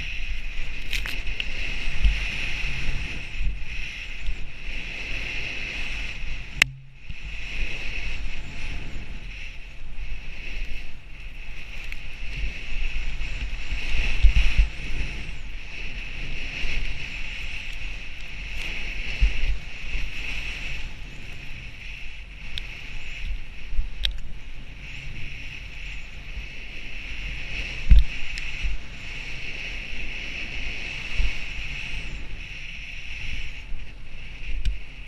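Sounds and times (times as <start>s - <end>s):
skis hissing through powder snow: 0.0s - 35.0s
wind buffeting microphone: 0.0s - 35.0s.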